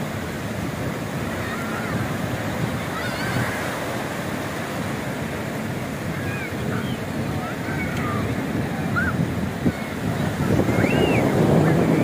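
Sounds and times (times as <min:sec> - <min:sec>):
waves washing in: 0:00.0 - 0:12.0
wind buffeting microphone: 0:00.0 - 0:12.0.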